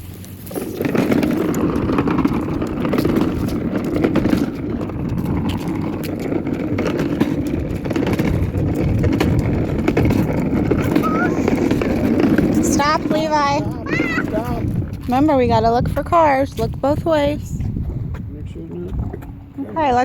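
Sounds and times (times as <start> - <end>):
toy truck wheels rumbling: 0.0 - 17.1.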